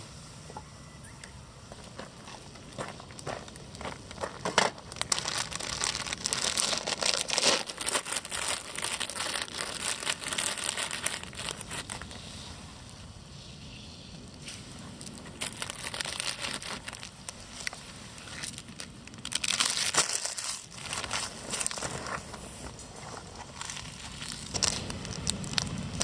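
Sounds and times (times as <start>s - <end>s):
crumpled material crinkling: 1.9s - 12.4s, 14.4s - 26.0s.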